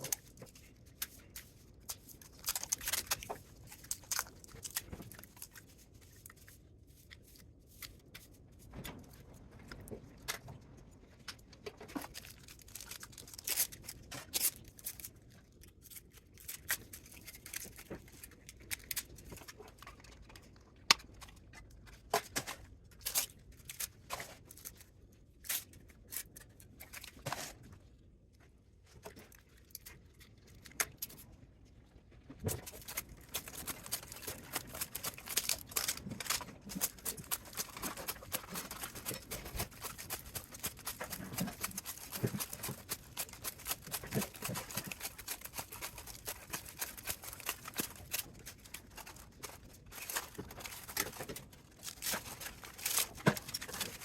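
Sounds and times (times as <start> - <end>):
metal foil crinkling and tearing: 0.0 - 9.3, 11.4 - 27.6, 32.4 - 54.0.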